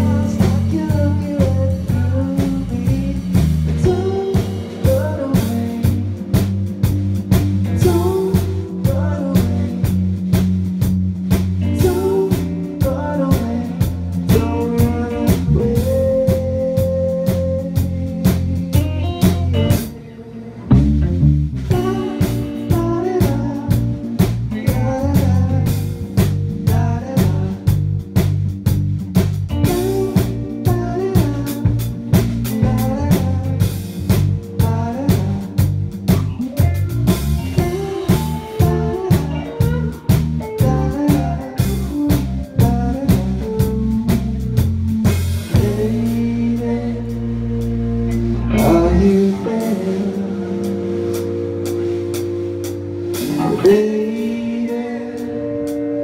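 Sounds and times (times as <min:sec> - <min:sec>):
man singing: 0:00.0 - 0:06.5, 0:07.7 - 0:10.2, 0:11.6 - 0:20.3, 0:21.7 - 0:27.8, 0:29.5 - 0:51.4, 0:53.2 - 0:56.0
drum kit: 0:00.0 - 0:56.0
electric guitar: 0:00.0 - 0:56.0.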